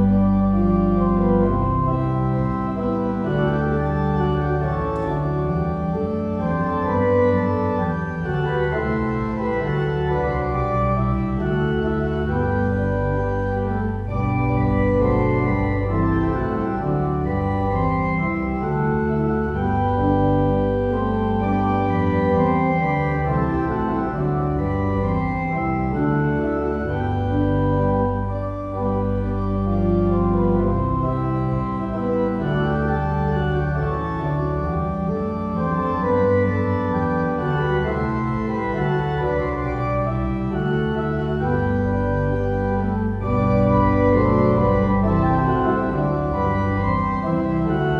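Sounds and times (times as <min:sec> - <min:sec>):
organ playing held chords: 0:00.0 - 0:47.9.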